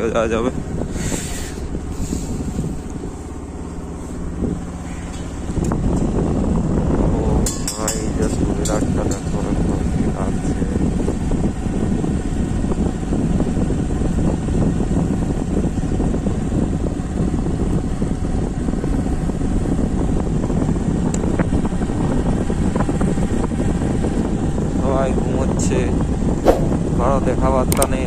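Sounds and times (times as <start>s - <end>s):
motorcycle engine rumble: 0.0s - 24.7s
wind noise: 0.0s - 28.0s.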